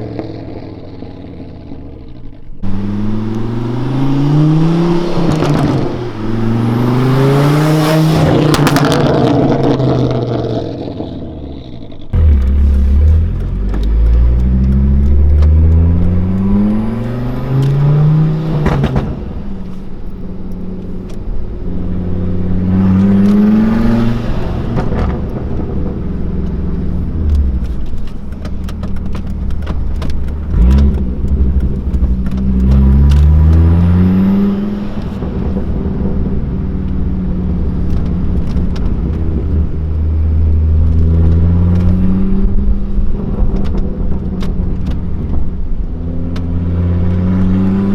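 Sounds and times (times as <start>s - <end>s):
car engine revving: 0.0s - 47.9s
exhaust pops and crackles: 0.0s - 47.9s.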